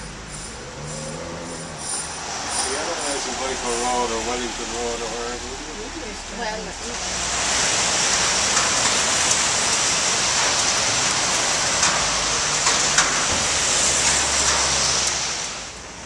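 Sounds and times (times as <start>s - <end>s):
rain on an umbrella: 2.2s - 16.0s.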